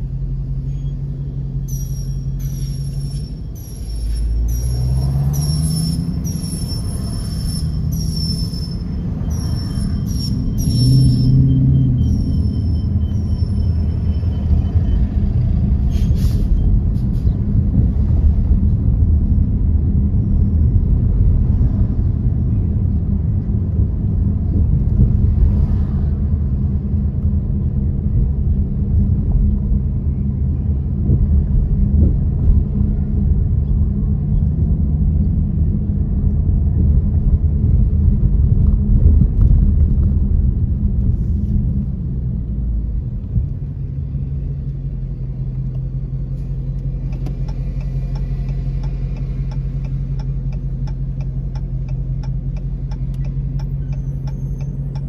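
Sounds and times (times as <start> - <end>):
car road rumble: 0.0 - 55.0.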